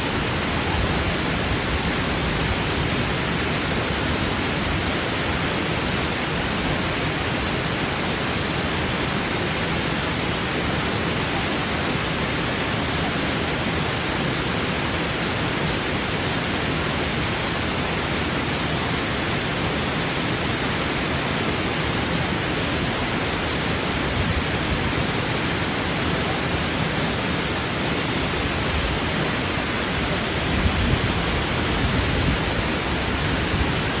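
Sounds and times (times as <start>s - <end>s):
waterfall crashing: 0.0s - 34.0s.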